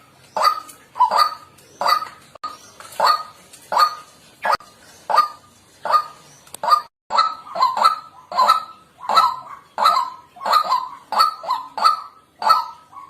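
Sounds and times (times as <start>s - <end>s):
waterhen harsh nasal calls: 0.0s - 13.0s.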